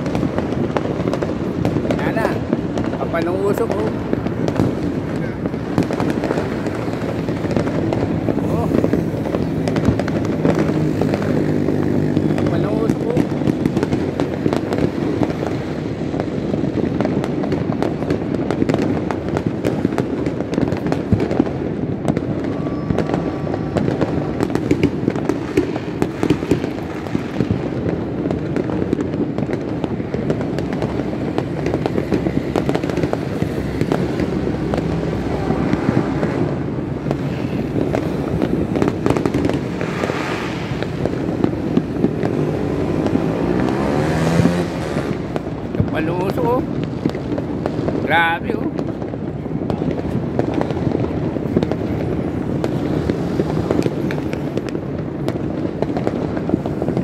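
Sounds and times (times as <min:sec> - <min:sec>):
fireworks crackling and popping: 0:00.0 - 0:57.0
loud sharp firework bangs: 0:00.0 - 0:57.0.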